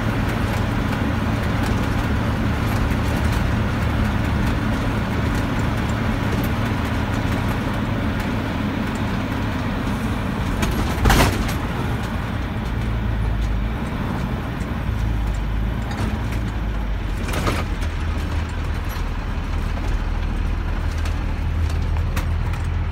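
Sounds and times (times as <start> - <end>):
bus engine and road hum: 0.0 - 22.9.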